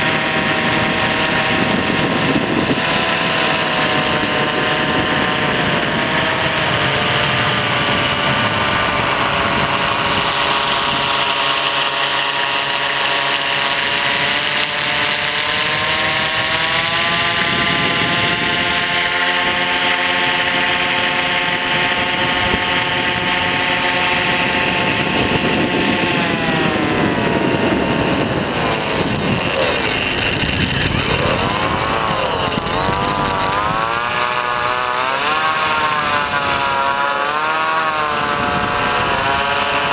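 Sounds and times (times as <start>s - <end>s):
propeller motors whining: 0.0s - 39.9s.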